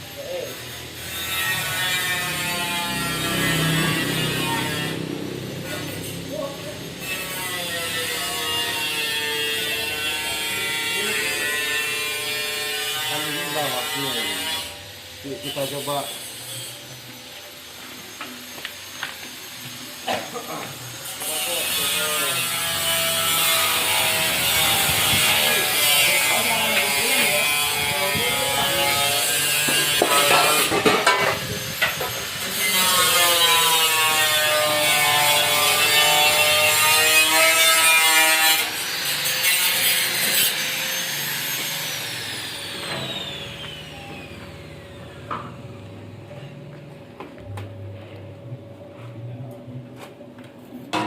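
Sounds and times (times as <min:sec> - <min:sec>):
electric angle grinder whining: 0:00.1 - 0:45.9.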